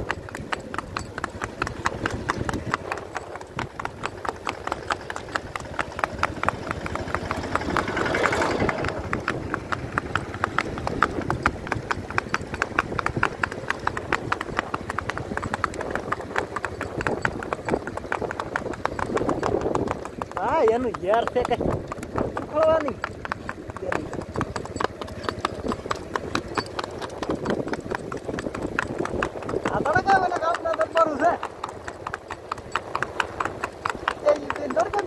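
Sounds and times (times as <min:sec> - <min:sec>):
horse hooves clip-clopping on pavement: 0:00.0 - 0:35.0.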